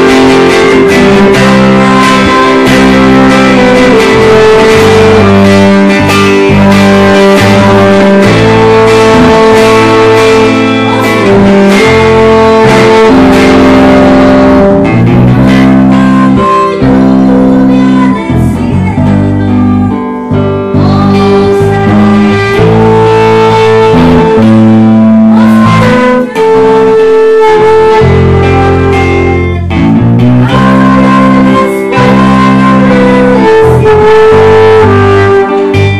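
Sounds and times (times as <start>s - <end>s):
guitar music with bass line: 0.0s - 35.9s.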